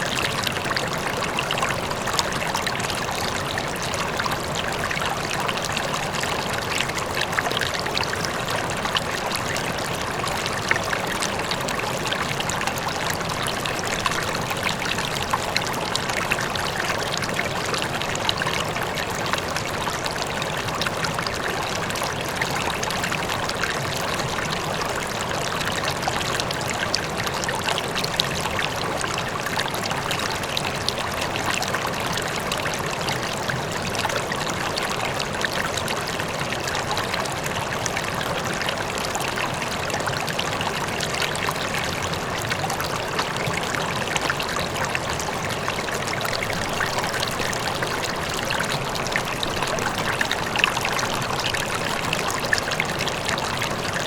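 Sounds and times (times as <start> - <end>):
faint waterfall: 0.0 - 54.0
river flowing over rocks: 0.0 - 54.0.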